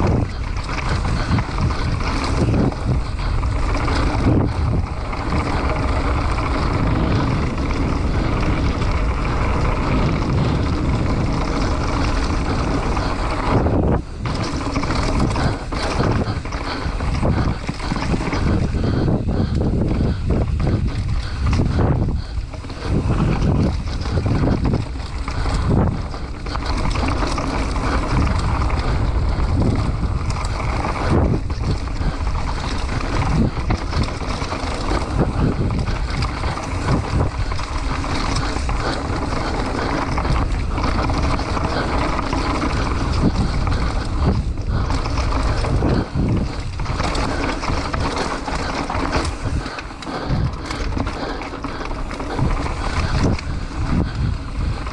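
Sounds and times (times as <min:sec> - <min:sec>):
bike knocking and rattling: 0:00.0 - 0:54.9
tyres rolling over rough ground: 0:00.0 - 0:54.9
wind rushing over microphone: 0:00.0 - 0:54.9.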